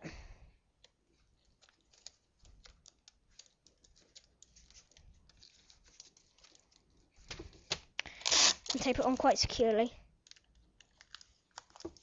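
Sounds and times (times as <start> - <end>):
paper and tape crinkling: 0.8 - 12.0.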